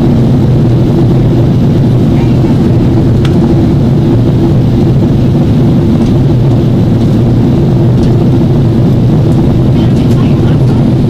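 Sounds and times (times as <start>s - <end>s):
airplane cabin engine roar: 0.0s - 11.0s
low tonal hum: 0.0s - 11.0s.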